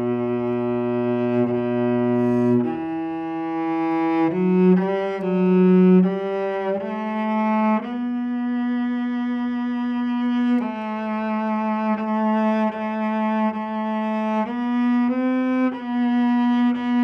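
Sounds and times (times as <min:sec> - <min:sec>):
solo cello playing slow melody: 0:00.0 - 0:17.0.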